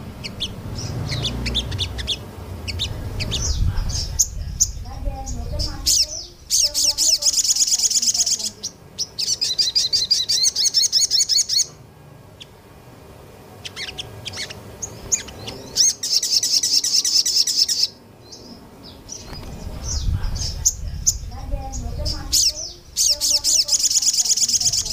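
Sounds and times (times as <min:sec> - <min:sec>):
bird chirps: 0:00.0 - 0:11.8, 0:13.6 - 0:24.9
songbird singing rapid sharp notes: 0:00.0 - 0:12.6, 0:13.5 - 0:24.9.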